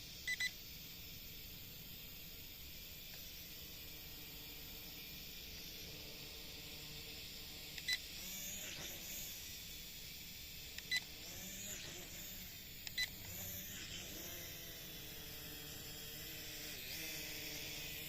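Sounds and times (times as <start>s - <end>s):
toy quadcopter motors whining: 1.9s - 18.0s.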